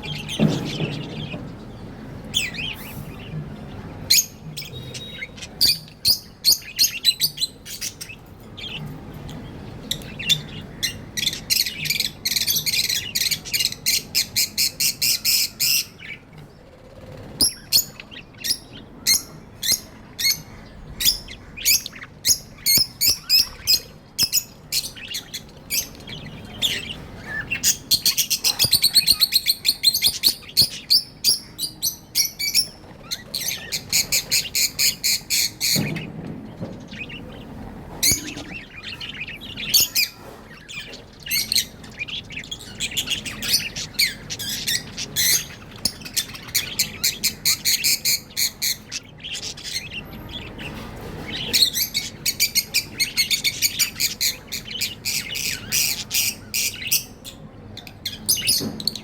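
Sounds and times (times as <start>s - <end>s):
budgerigars chirping: 0.0s - 16.2s, 17.3s - 59.0s.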